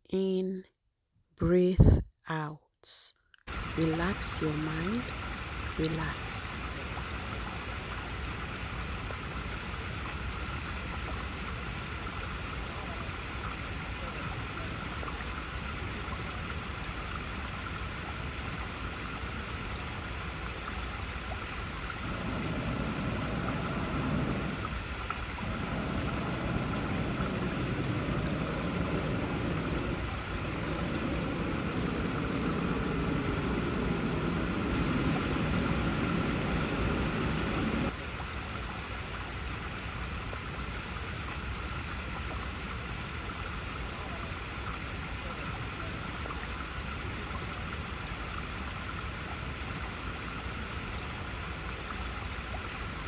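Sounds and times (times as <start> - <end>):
water flowing over rocks: 3.5 - 53.0.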